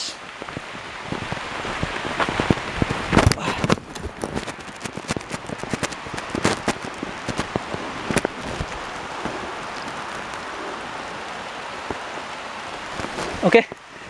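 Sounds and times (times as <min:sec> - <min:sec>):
heavy rain pouring: 0:00.0 - 0:14.0
raindrops tapping near microphone: 0:00.0 - 0:14.0.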